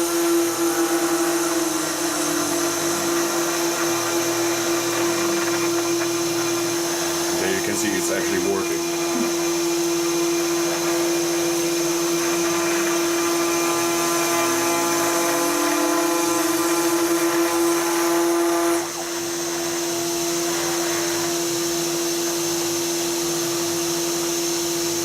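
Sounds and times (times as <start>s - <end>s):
router whining while milling wood: 0.0s - 25.0s.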